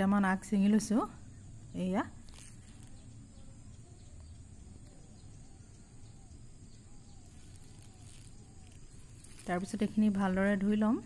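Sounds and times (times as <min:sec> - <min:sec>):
low steady hum: 0:00.0 - 0:11.0
faint bird calls: 0:01.2 - 0:10.8.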